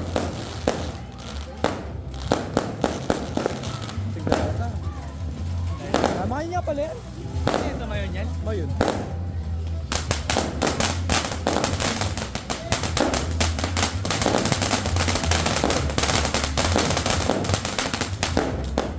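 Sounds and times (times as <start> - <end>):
firework fountain crackling: 0.0 - 18.9.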